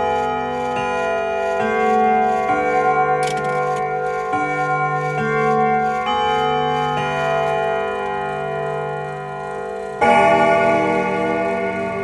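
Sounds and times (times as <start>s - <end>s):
grandfather clock chiming: 0.0s - 12.0s.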